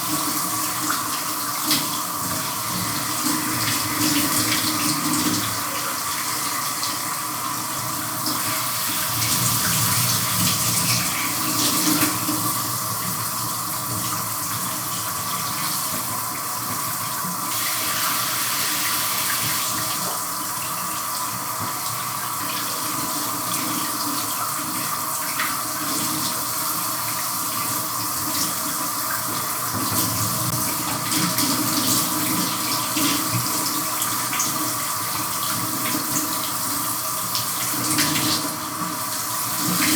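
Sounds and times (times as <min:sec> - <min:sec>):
shower spray running: 0:00.0 - 0:39.9.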